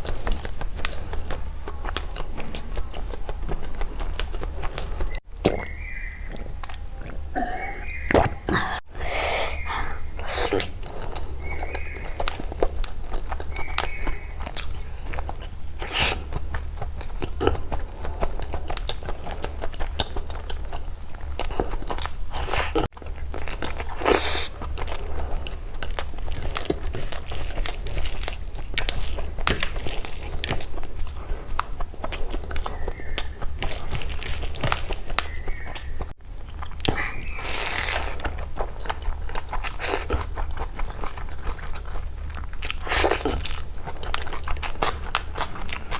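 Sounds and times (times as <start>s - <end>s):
crunching and wet chewing: 0.0s - 45.9s.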